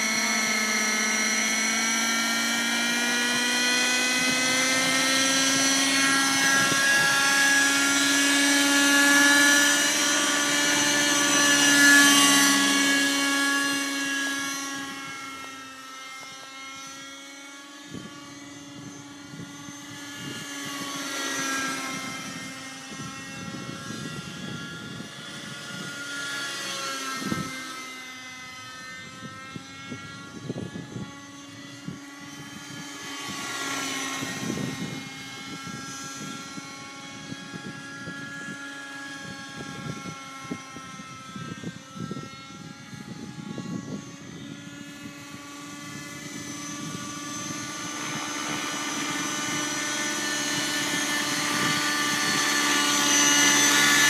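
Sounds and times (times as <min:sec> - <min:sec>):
model helicopter engine whining: 0:00.0 - 0:54.0.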